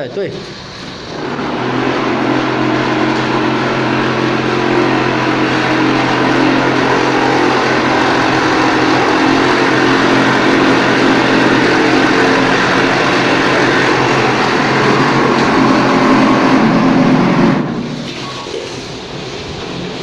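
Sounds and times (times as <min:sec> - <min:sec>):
plastering machine running: 0:00.0 - 0:20.0.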